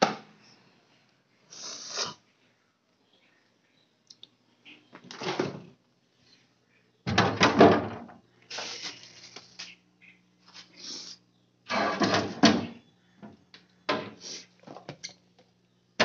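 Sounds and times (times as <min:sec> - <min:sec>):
faint low hum: 0:00.1 - 0:16.0.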